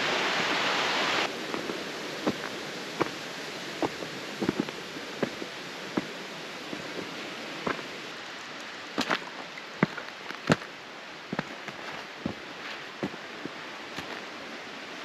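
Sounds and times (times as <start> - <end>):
steady hiss: 0.0 - 15.0
footsteps on rocky trail: 1.3 - 8.2, 8.9 - 14.4.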